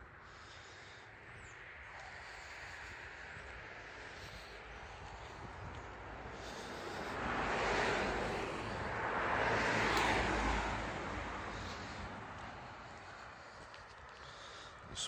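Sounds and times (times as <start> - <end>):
passing vehicles: 0.0 - 15.0.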